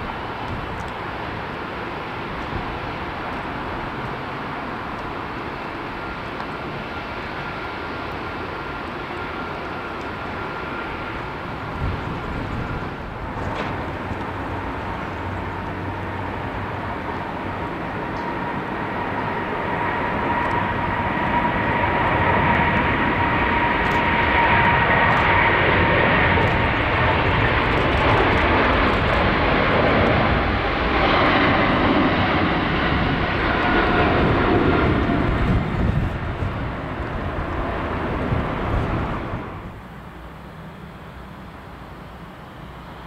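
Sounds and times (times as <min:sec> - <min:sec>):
jet engines roaring: 0:00.0 - 0:43.0.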